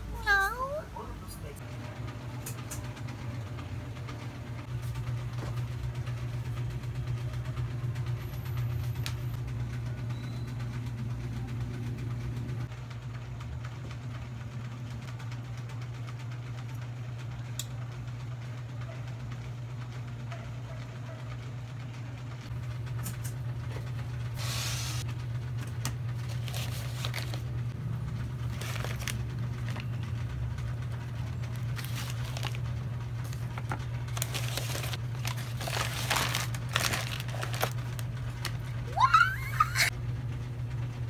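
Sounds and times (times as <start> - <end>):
low motor hum: 0.0 - 41.0.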